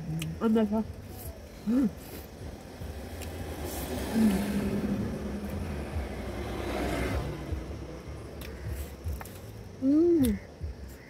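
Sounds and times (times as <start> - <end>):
vehicle rumble inside car: 0.0 - 11.0
vehicle passing: 0.6 - 9.8.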